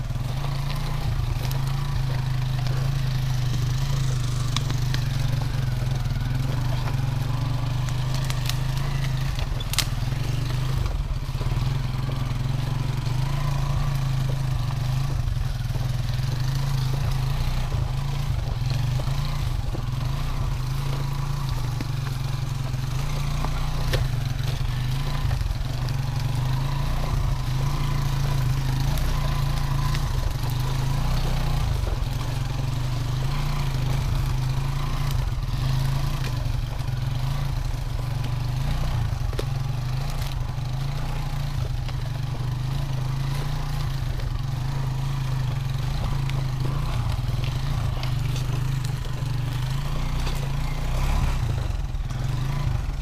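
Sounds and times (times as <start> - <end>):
motorcycle engine at low revs: 0.0 - 53.0.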